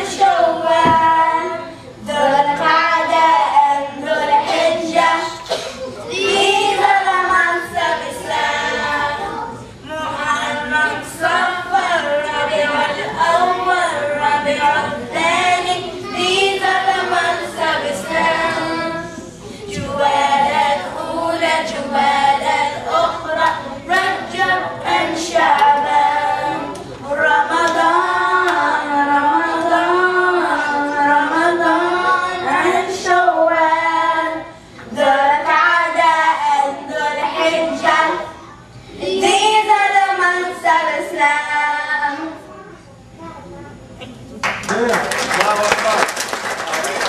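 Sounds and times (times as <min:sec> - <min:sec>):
children singing unaccompanied: 0:00.0 - 0:42.5.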